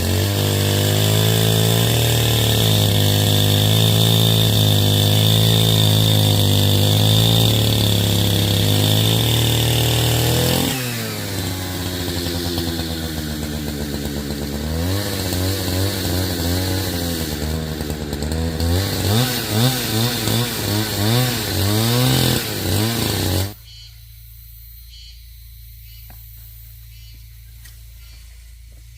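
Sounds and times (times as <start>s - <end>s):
chainsaw engine revving: 0.0s - 23.6s.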